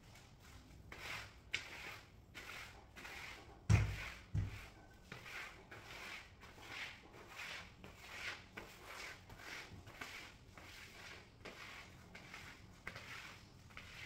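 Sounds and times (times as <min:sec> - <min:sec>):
squeegee swishing on wet floor: 0:00.0 - 0:14.0.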